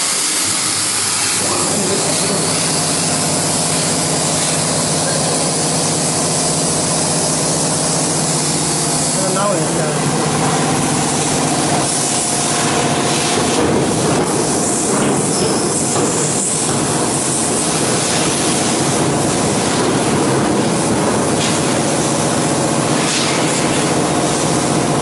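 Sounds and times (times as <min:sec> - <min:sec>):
machine hum: 0:00.0 - 0:25.0
plasma arc hissing: 0:00.0 - 0:25.0.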